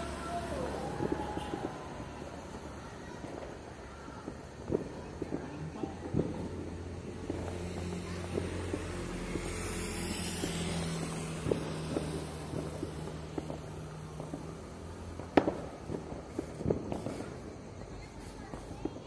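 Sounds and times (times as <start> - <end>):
firecracker bangs: 0.0 - 19.0.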